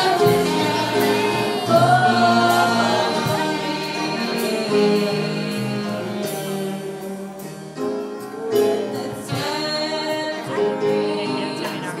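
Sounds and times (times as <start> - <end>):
congregation singing: 0.0 - 12.0
piano: 0.0 - 12.0.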